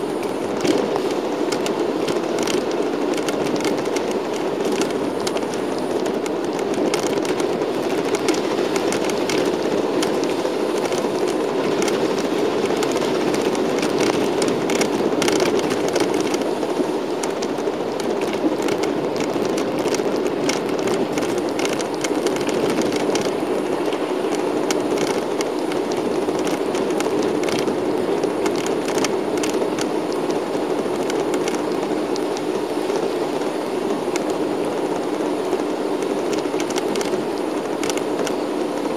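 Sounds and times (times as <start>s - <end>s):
bus engine and road noise: 0.0s - 38.9s
light crackling ticks: 0.1s - 38.9s.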